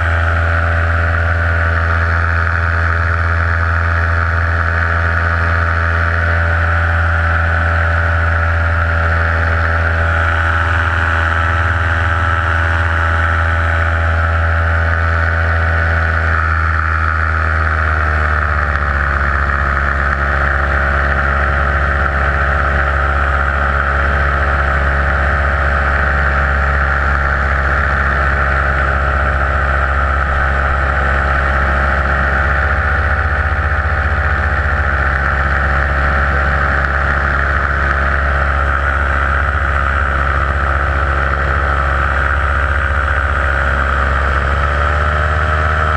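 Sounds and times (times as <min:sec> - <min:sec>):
paramotor engine and propeller: 0:00.0 - 0:45.9.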